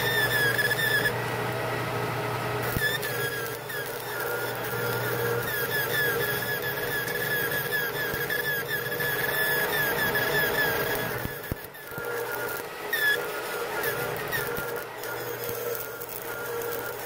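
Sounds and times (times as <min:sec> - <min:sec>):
short high squeak: 0:00.0 - 0:01.2, 0:02.6 - 0:17.0
welding arc crackling hiss: 0:00.0 - 0:01.2, 0:02.6 - 0:17.0.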